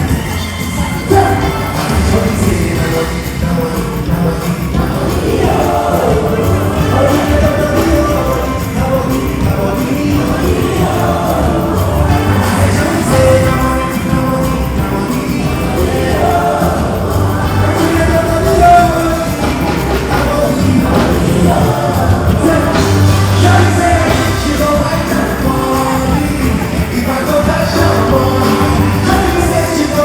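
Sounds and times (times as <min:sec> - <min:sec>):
heavy bass beat: 0:00.0 - 0:30.0
live music with singing: 0:00.0 - 0:30.0.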